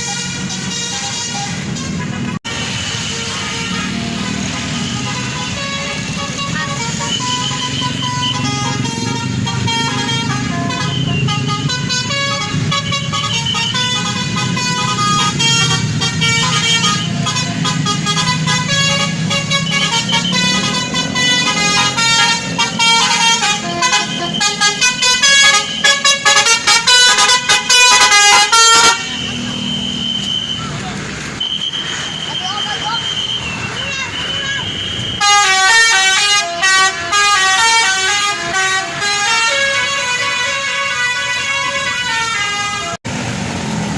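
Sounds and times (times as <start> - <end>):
musical horn playing melody: 0.0 - 29.5, 35.2 - 43.0
bus engine running: 0.0 - 43.9.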